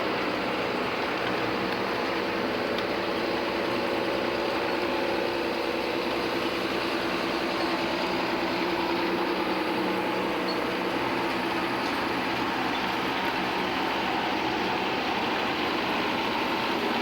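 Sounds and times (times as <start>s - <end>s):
tractor diesel engines running: 0.0s - 17.0s.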